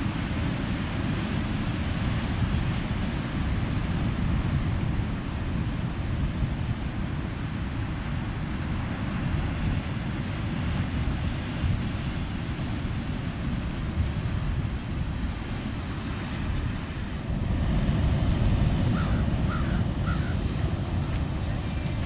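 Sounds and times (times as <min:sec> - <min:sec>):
ocean surf: 0:00.0 - 0:22.0
wind buffeting microphone: 0:00.0 - 0:22.0.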